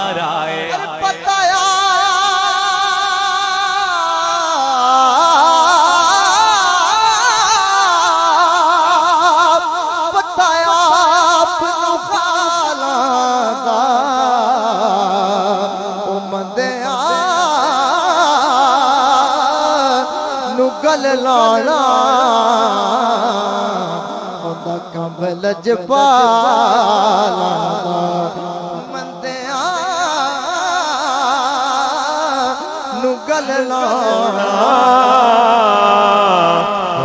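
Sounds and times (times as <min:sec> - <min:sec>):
men singing through microphones: 0:00.0 - 0:37.0.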